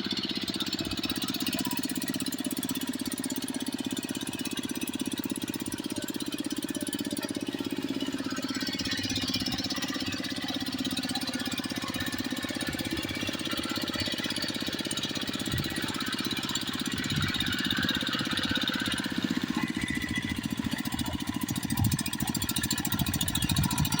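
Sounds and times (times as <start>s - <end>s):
diesel tractor engine chattering: 0.0s - 24.0s.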